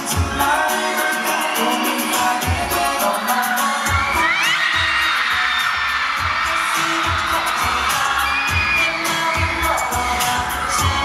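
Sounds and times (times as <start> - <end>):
pop dance track over sound system: 0.0 - 11.0.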